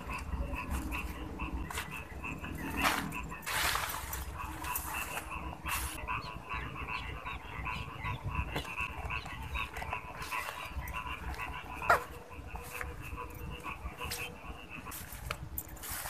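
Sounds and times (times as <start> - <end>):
chorus of chirping animal calls: 0.0 - 15.4.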